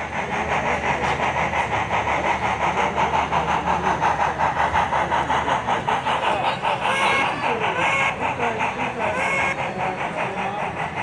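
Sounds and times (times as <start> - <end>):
model train steam chuffs: 0.0 - 11.0.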